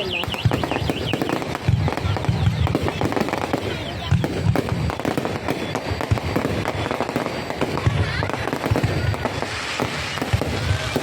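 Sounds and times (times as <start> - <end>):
deep firework thuds: 0.0 - 11.0
fireworks cracking and popping: 0.0 - 11.0.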